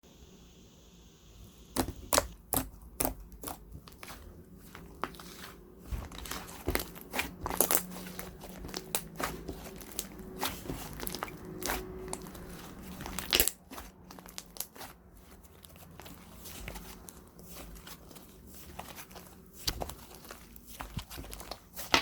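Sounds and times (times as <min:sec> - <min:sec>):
plastic wrapping crinkling: 0:01.8 - 0:22.0.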